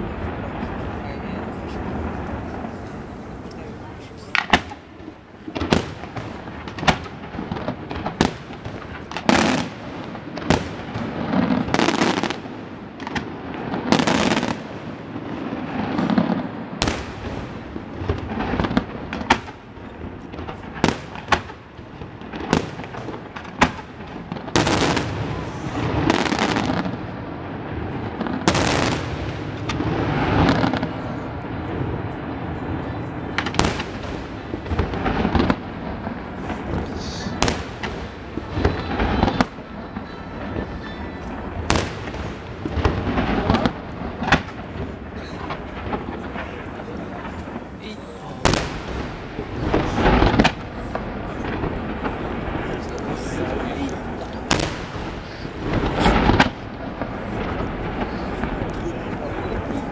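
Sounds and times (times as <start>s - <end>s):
fireworks bangs: 0.0s - 59.9s
hissing rumbling firework bursts: 0.0s - 59.9s.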